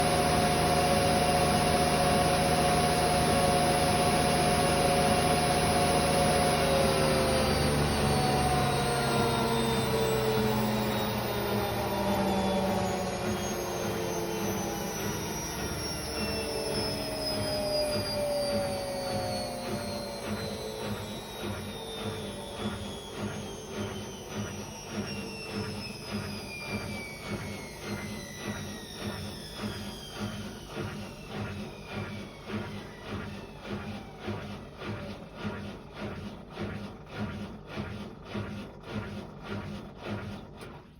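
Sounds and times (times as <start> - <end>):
motor whine: 0.0 - 35.2
washing machine spinning: 0.0 - 40.9.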